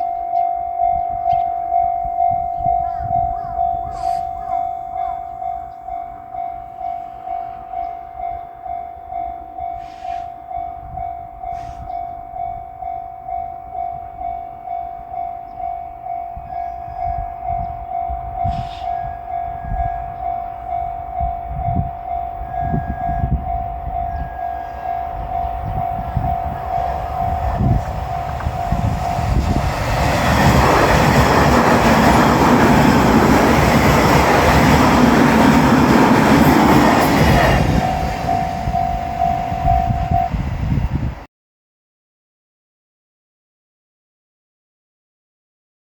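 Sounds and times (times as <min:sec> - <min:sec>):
level crossing warning bell: 0:00.0 - 0:41.1
electric train passing at speed: 0:00.0 - 0:41.3.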